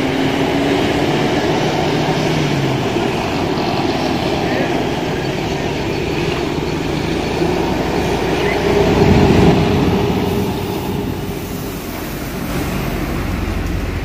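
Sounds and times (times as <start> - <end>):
heavy vehicle passing: 0.0 - 14.0
road traffic rumble: 0.0 - 14.0.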